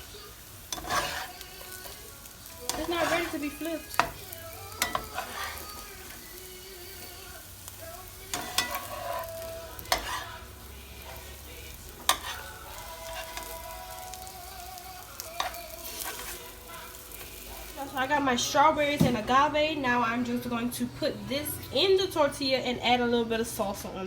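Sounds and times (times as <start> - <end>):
food sizzling in a skillet: 0.0 - 24.0.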